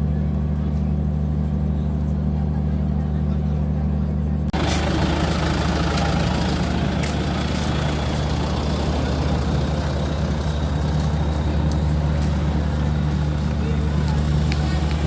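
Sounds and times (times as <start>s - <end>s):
large diesel engine running: 0.0s - 15.0s.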